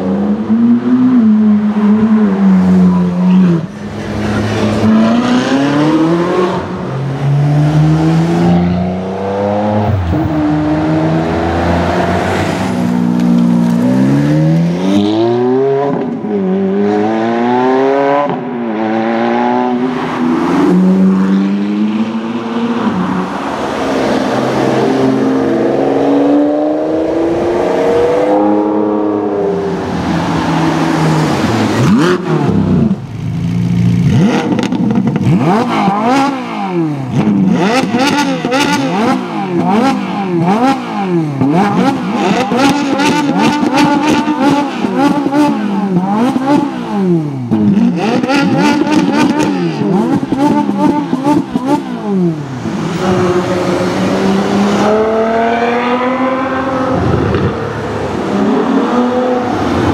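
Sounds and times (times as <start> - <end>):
car engines accelerating hard: 0.0 - 59.9.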